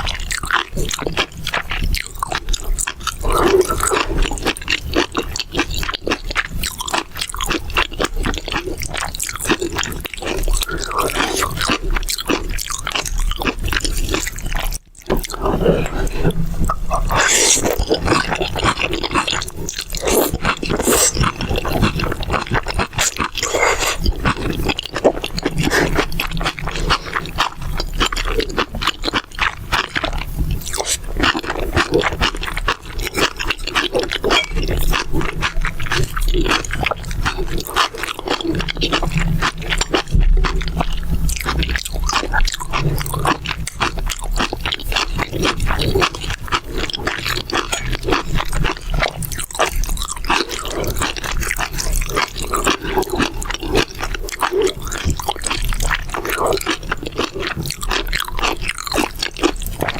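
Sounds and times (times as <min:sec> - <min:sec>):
crunching and chewing: 0:00.0 - 0:59.9.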